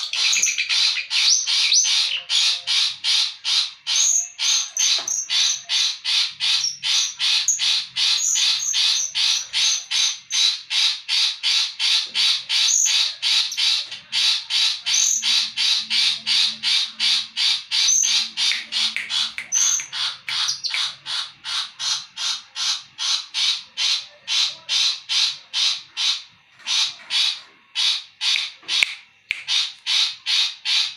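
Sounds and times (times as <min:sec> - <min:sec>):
bird singing harsh scratchy notes: 0:00.0 - 0:30.9.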